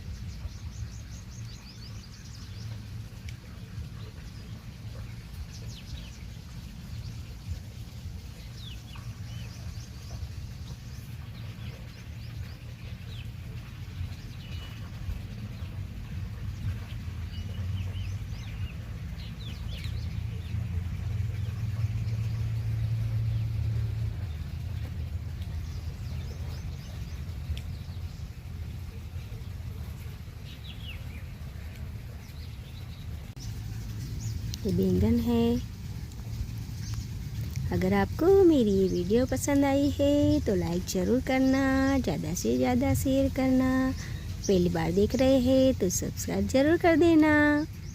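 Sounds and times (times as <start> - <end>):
low rumble: 0.0 - 46.6
birds chirping: 0.0 - 47.9.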